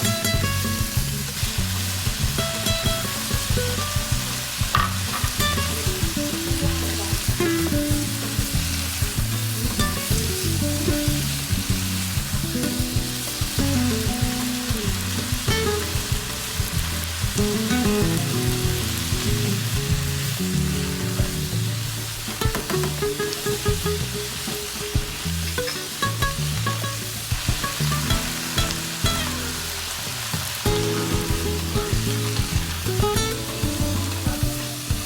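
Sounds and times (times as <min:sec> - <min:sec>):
soft background music: 0:00.0 - 0:26.3, 0:30.7 - 0:35.0
food sizzling in a pan: 0:00.0 - 0:35.0.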